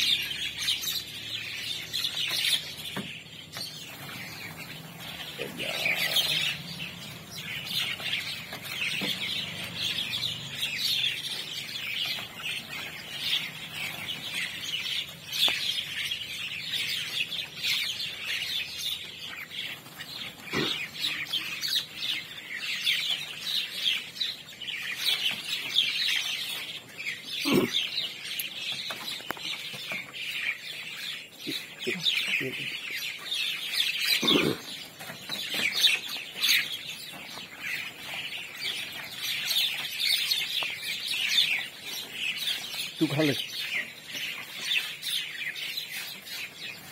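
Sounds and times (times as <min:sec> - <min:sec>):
flock of birds chattering: 0:00.0 - 0:46.9.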